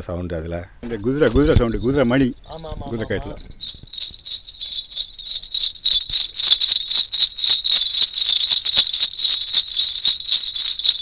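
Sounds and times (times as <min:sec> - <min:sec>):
horse bells jingling: 0:01.0 - 0:11.0.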